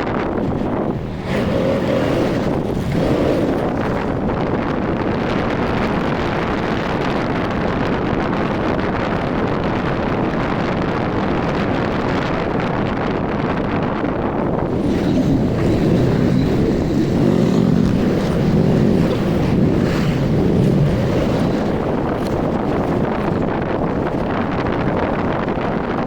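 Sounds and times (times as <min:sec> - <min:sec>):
motorcycle engine and road noise: 0:00.0 - 0:26.0
wind rushing over microphone: 0:00.0 - 0:26.0.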